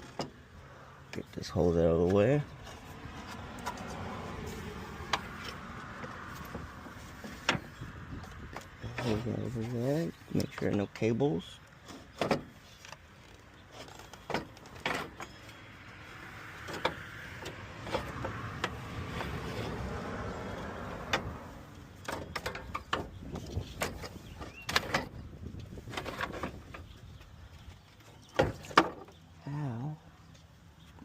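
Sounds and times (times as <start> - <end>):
clicks and knocks of car parts: 0.0 - 0.5, 2.0 - 9.2, 10.4 - 29.2.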